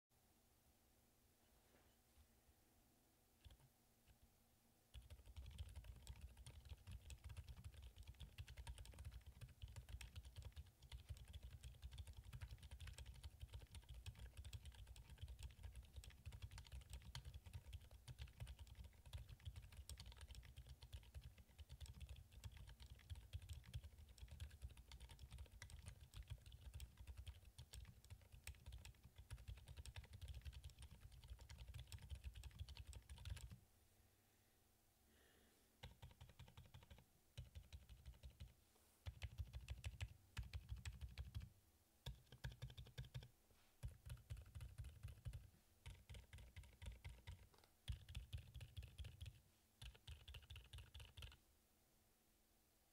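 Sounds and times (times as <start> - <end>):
soft mechanical keyboard typing: 3.4 - 4.2, 4.9 - 33.6, 35.8 - 51.4.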